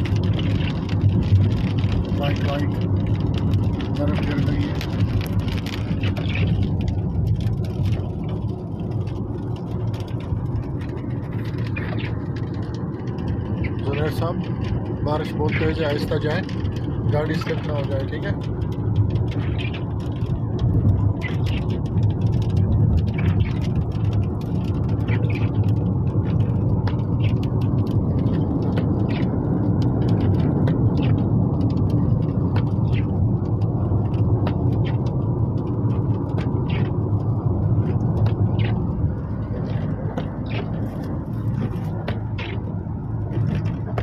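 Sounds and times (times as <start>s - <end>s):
car driving rumble: 0.0s - 44.0s
hailstones ticking on car: 0.0s - 44.0s.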